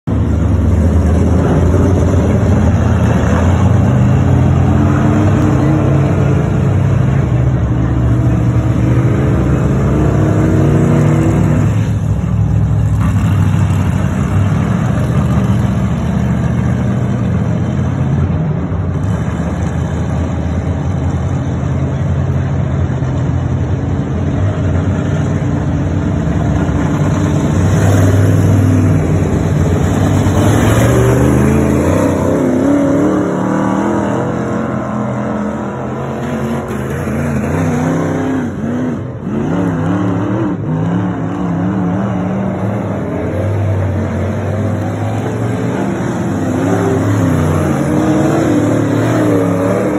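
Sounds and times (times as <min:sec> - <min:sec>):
race car engine revving: 0:00.1 - 0:18.1, 0:24.1 - 0:49.9.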